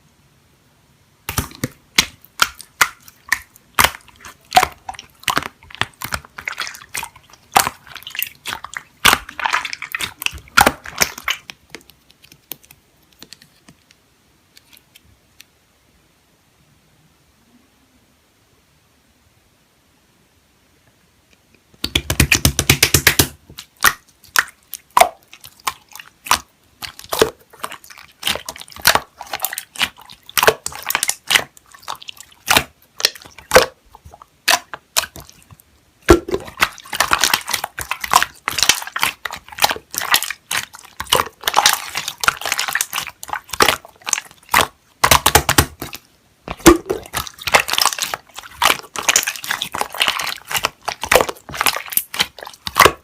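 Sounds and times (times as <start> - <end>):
slime squished by hand: 1.3 - 13.6, 21.8 - 53.0.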